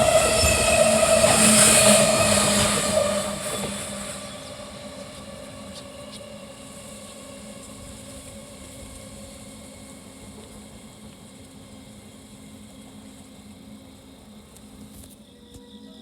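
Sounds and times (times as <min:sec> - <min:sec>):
freight train rumbling: 0:00.0 - 0:14.9.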